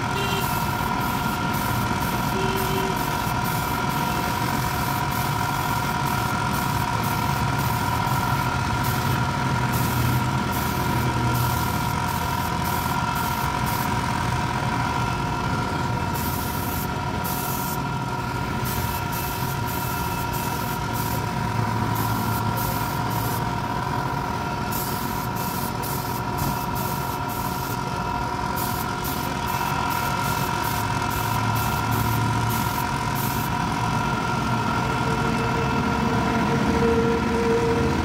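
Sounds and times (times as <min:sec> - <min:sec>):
spray gun air hiss: 0:00.0 - 0:14.6, 0:16.1 - 0:23.6, 0:24.6 - 0:33.8
air compressor running: 0:00.0 - 0:38.0.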